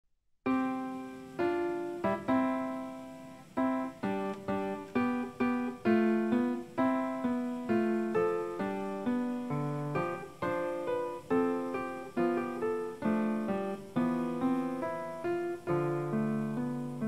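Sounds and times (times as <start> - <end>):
slow solo piano melody: 0.5 - 17.0.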